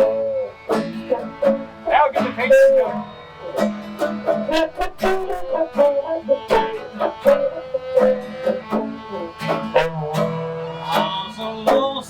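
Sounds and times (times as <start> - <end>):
guitar notes: 0.0 - 12.0
held melody line: 0.0 - 12.0
plucked banjo: 0.0 - 12.0.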